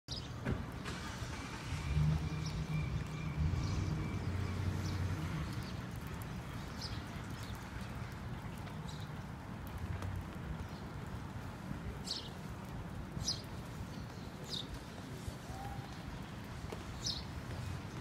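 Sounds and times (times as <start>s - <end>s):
low traffic rumble: 0.1s - 18.0s.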